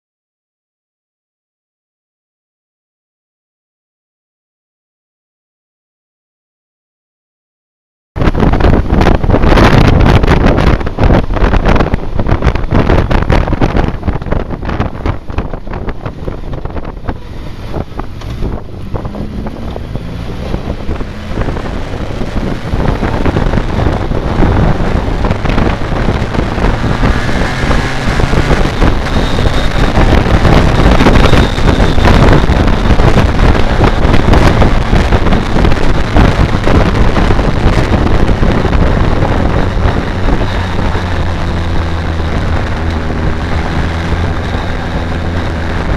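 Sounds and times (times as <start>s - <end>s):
motorcycle engine cruising: 8.2s - 45.9s
wind buffeting microphone: 8.2s - 45.9s.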